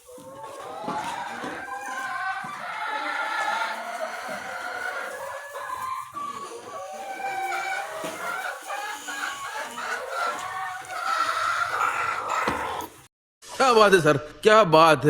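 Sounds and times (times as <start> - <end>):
chickens clucking: 0.0 - 13.1.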